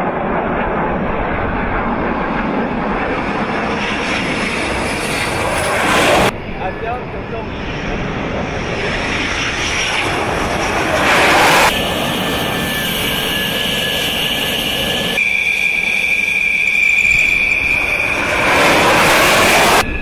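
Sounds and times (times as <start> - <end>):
high steady whine: 0.0 - 20.0
jet engines roaring: 0.0 - 20.0.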